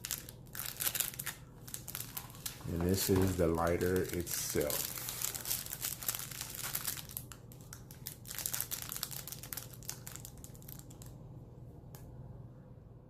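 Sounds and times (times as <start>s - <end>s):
packaging crinkling: 0.0s - 11.1s.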